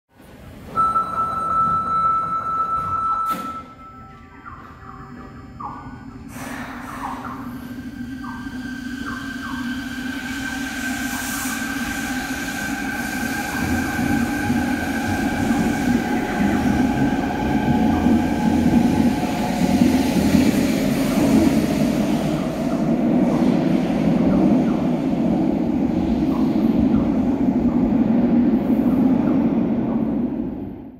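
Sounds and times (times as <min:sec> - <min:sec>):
train inverter whine: 0:00.4 - 0:30.9
train running gear rumble: 0:01.7 - 0:30.9.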